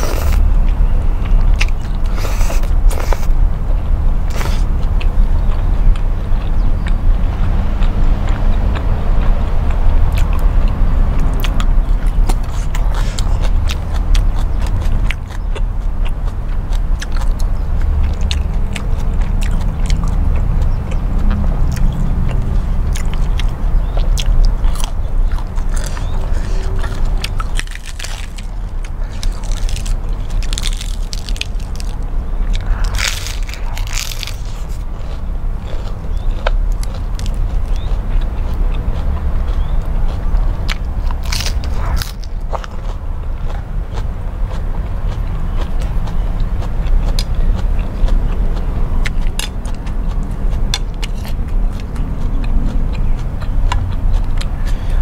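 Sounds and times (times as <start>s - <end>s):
chewing crunches: 0.0s - 55.0s
wet chewing smacks: 7.8s - 55.0s.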